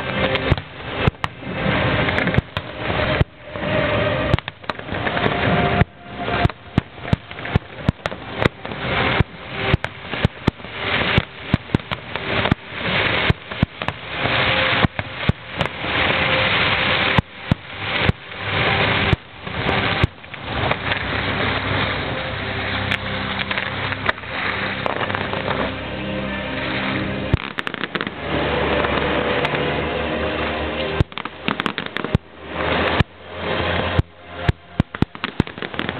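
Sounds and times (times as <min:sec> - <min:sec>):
fireworks bangs: 0:00.0 - 0:26.0, 0:26.6 - 0:35.9.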